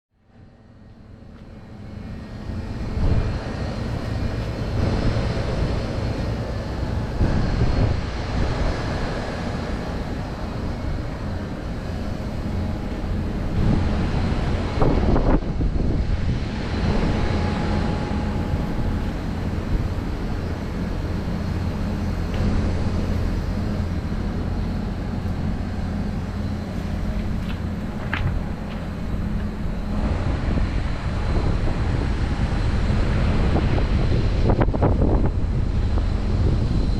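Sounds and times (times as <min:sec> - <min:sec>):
compressor hum: 0:00.2 - 0:36.9
heat pump fan whoosh: 0:00.2 - 0:36.9.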